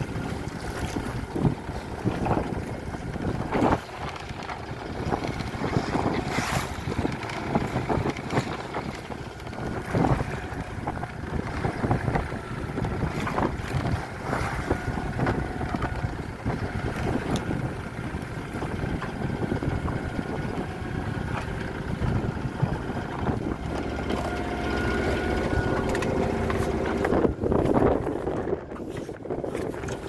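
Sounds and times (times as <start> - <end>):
water splashing against hull: 0.0 - 30.0
wind buffeting microphone: 0.0 - 30.0.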